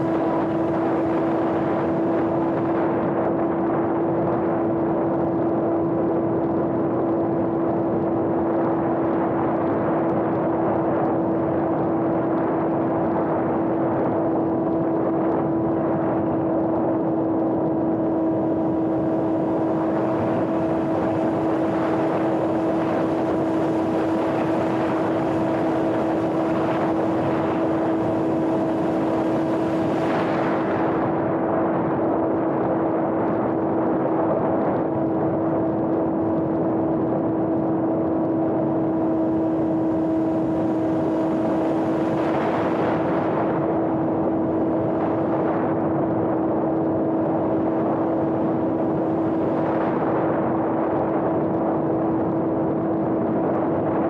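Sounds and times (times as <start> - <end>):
electric motor and propeller hum: 0.0 - 54.0
wind noise: 0.0 - 54.0.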